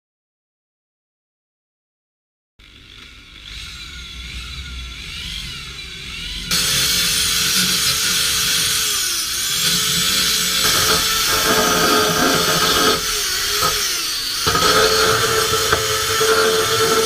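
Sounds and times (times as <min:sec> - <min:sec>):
power tool grinding steel: 0:02.6 - 0:17.0.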